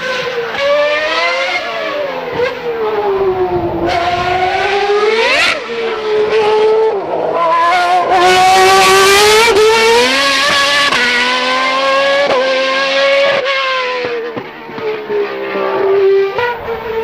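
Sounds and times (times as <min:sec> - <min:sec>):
race car engine revving through gears: 0:00.0 - 0:17.0.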